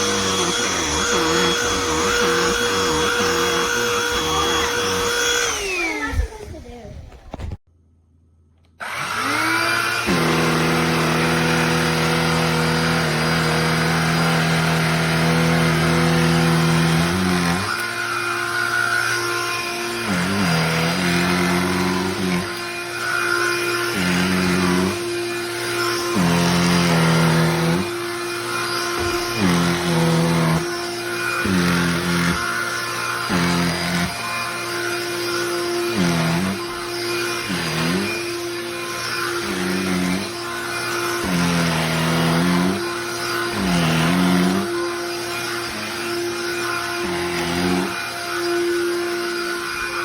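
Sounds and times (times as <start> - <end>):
handheld vacuum motor whine: 0.0 - 7.6, 8.6 - 50.0.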